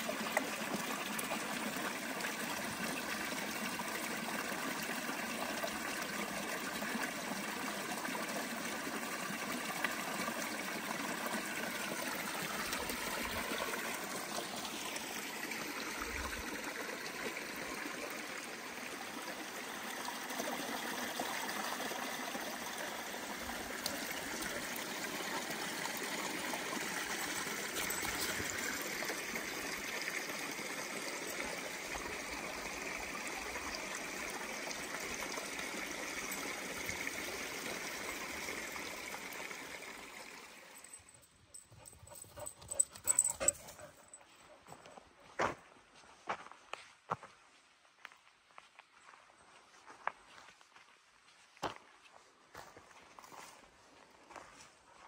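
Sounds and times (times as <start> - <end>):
creek trickling over stones: 0.0 - 46.5, 47.6 - 55.0.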